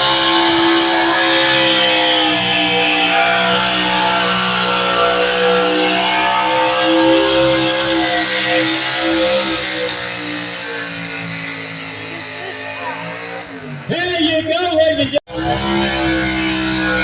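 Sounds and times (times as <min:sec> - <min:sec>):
vehicle engine running under load: 0:00.0 - 0:17.0.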